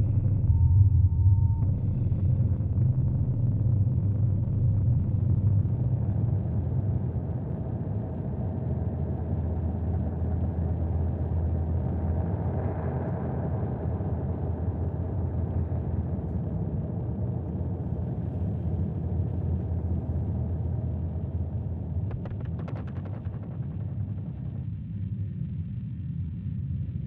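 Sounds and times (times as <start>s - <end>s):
low rumbling noise drone: 0.0s - 27.0s.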